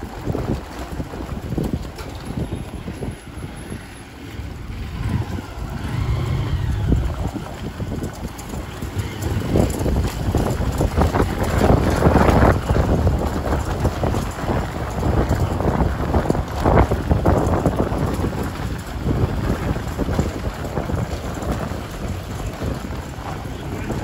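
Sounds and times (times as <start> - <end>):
motorbike rumbling: 0.0 - 24.0
wind buffeting microphone: 0.0 - 24.0.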